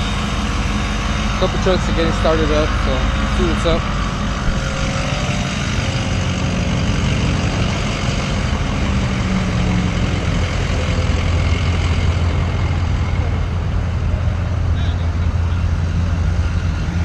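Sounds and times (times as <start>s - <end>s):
diesel truck engines idling: 0.0s - 17.0s.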